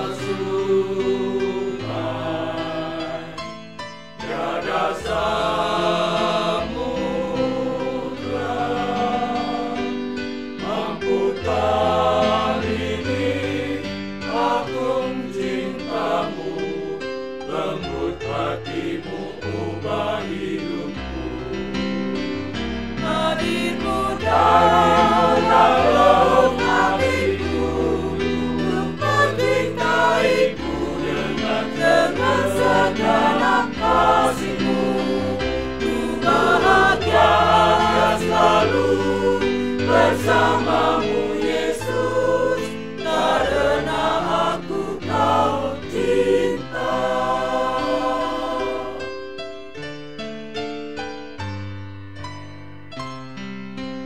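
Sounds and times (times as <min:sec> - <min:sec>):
mixed choir singing a hymn: 0:00.0 - 0:49.4
keyboard accompaniment: 0:00.0 - 0:54.0.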